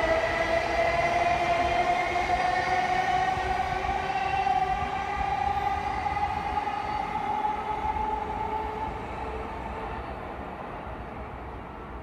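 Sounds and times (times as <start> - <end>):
electric train high whine: 0.0 - 11.3
train low rumble: 0.0 - 12.0.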